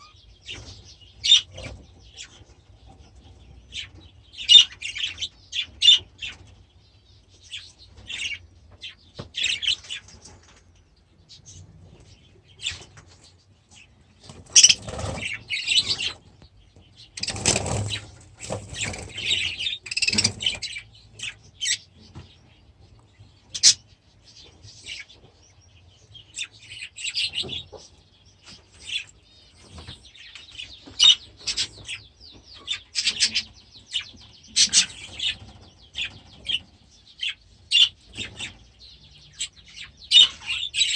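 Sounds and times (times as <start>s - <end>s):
budgerigars chirping and warbling: 0.0s - 40.9s.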